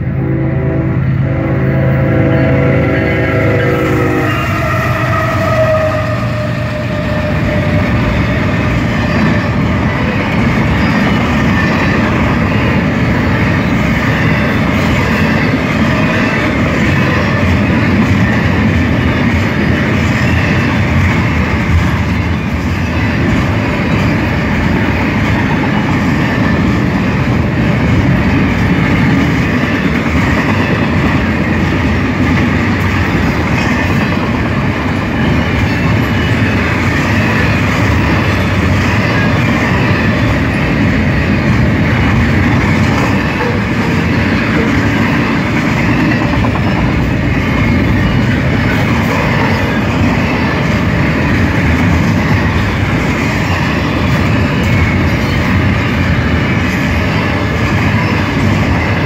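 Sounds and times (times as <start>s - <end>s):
steel train wheels on rails: 0.0s - 59.0s.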